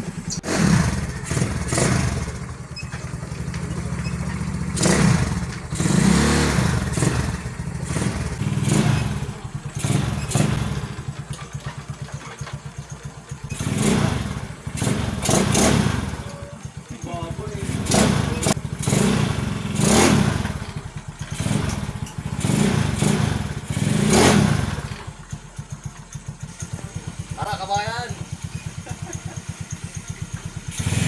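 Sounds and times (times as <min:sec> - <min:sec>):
scooter engine idling and revving: 0:00.0 - 0:31.0.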